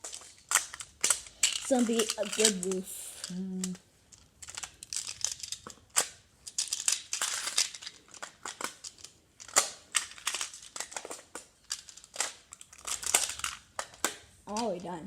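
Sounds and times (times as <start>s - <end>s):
plastic tiles clicking and clattering: 0.0s - 15.0s.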